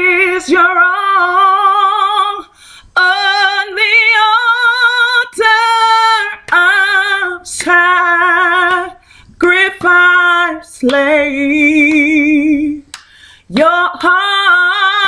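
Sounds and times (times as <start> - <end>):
woman singing a hymn: 0.0 - 15.0.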